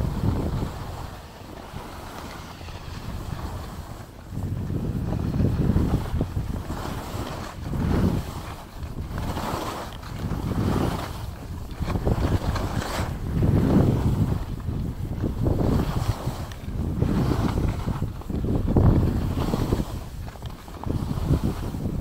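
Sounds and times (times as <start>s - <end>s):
skis scraping over snow: 0.0s - 22.0s
wind buffeting microphone: 0.0s - 22.0s.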